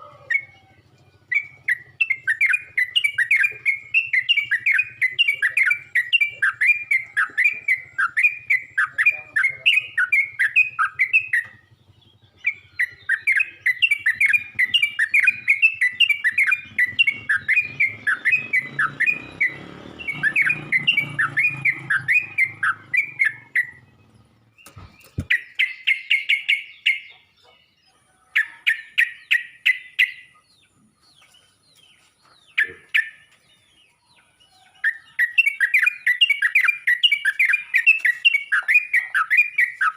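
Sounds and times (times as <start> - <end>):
bird chattering calls: 0.0 - 33.9, 34.5 - 39.9.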